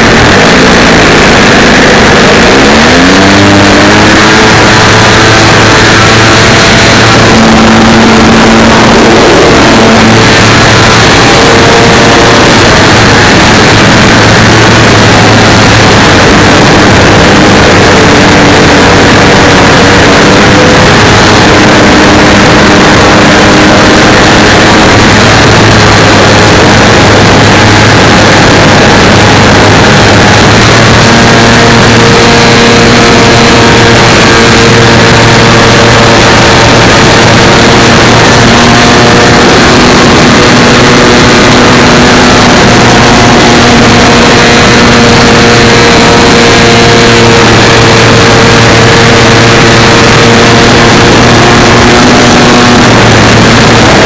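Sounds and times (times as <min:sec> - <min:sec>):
model plane engine running: 0:00.0 - 0:54.0
rush of air: 0:00.0 - 0:54.0.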